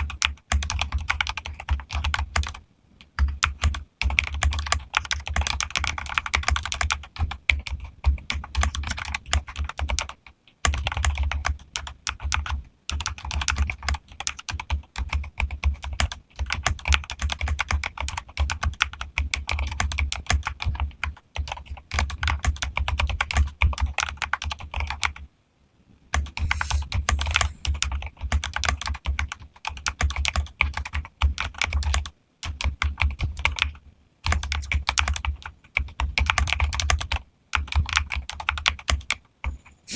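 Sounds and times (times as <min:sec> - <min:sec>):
mechanical keyboard typing: 0:00.0 - 0:25.2, 0:26.1 - 0:39.9.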